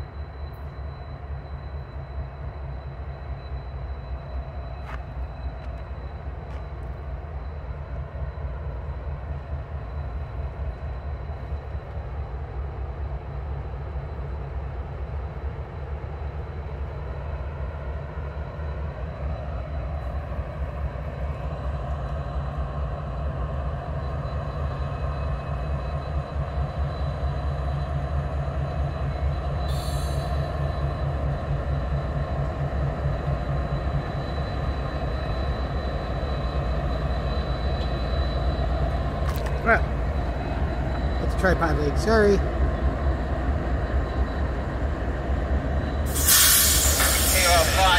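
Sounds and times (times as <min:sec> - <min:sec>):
diesel locomotive engines rumbling: 0:00.0 - 0:47.9.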